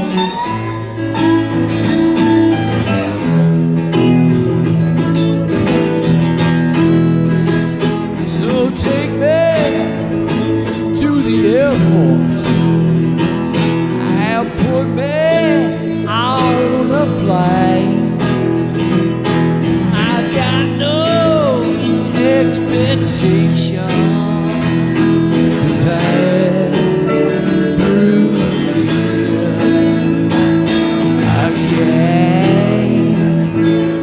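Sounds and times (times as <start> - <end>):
bent lead guitar notes: 0.0 - 34.0
guitar chords: 0.0 - 34.0.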